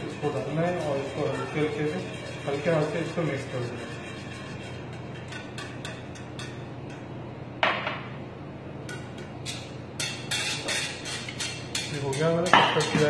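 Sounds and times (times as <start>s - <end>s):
metal spoon scraping saucepan: 0.0s - 6.7s, 8.9s - 13.0s.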